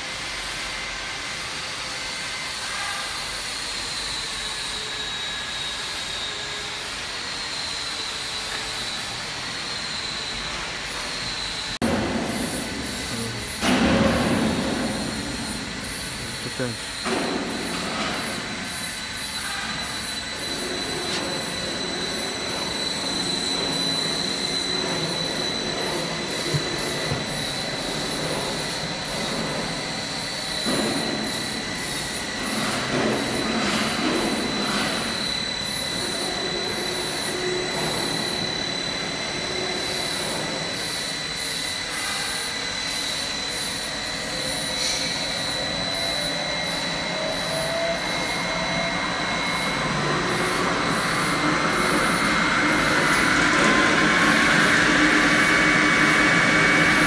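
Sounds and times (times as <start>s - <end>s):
high-pitched blade whine: 0.2s - 57.0s
mixer machine running: 3.3s - 57.0s.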